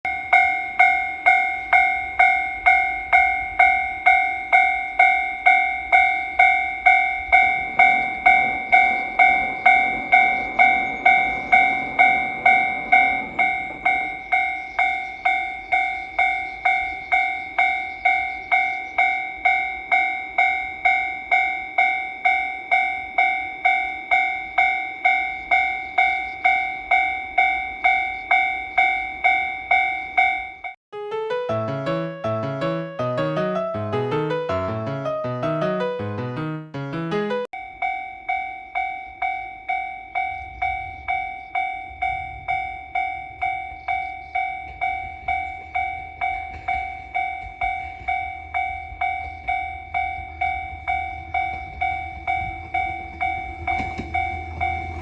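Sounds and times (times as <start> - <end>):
level-crossing warning bell clanging: 0.0 - 30.8, 37.4 - 55.0
train rumbling past: 0.1 - 30.8, 37.6 - 55.0.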